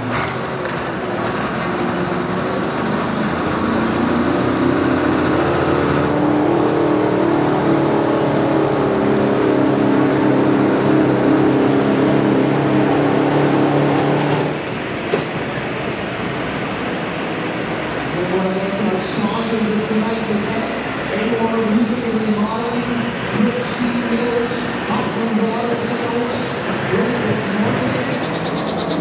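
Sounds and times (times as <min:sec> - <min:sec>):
truck engine running hard: 0:00.0 - 0:29.0.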